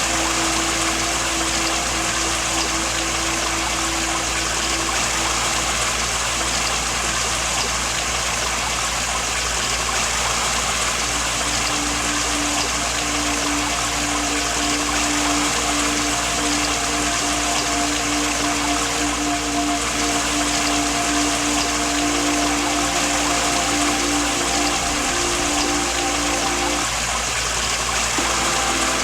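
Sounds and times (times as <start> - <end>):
waterfall rushing: 0.0 - 8.0, 10.8 - 27.1, 28.1 - 29.0
slow melody of held notes: 0.0 - 8.1, 10.9 - 27.1, 28.2 - 29.0.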